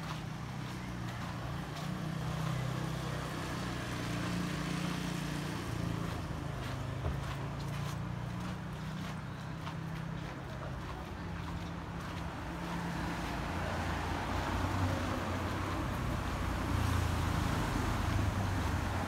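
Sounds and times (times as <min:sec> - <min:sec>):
road traffic driving past: 0:00.0 - 0:19.0
van engine hum passing: 0:00.0 - 0:19.0.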